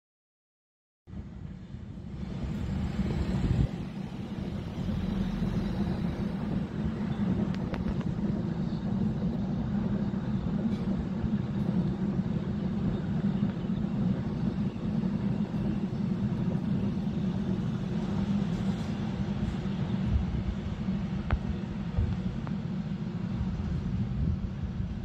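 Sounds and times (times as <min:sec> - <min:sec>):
freight train rumbling over viaduct: 0:01.1 - 0:25.0.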